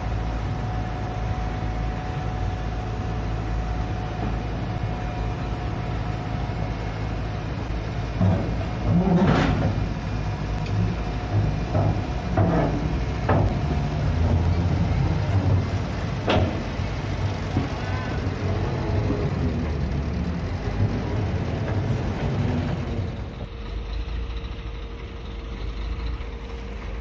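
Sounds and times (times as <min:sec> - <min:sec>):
excavator diesel engine under load: 0:00.0 - 0:27.0.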